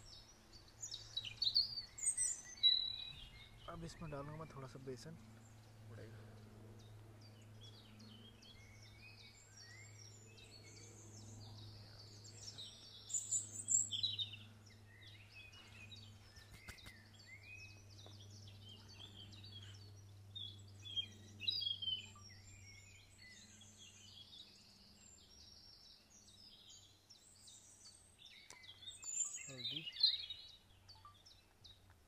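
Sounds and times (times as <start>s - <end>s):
steady low hum: 0.0s - 29.8s
wild birds chirping and calling: 0.0s - 32.0s.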